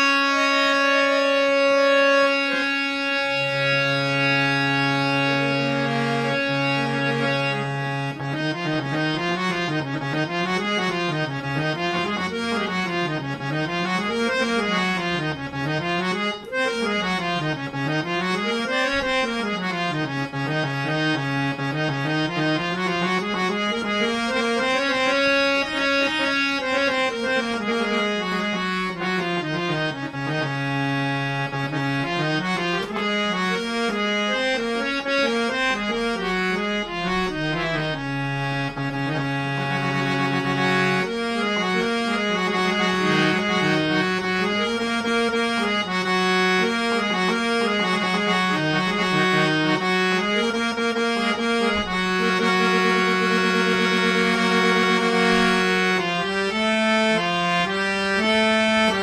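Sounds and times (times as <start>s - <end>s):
harmonium melody: 0.0s - 59.0s.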